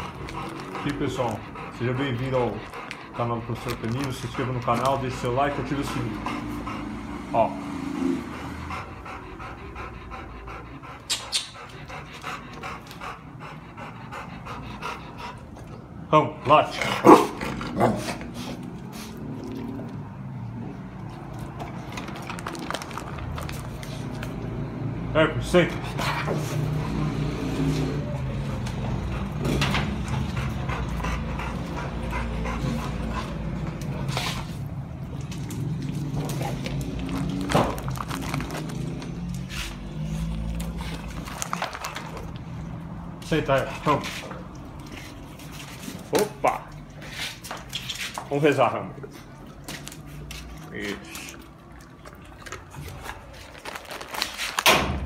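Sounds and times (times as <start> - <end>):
dogs panting: 0.0 - 54.4.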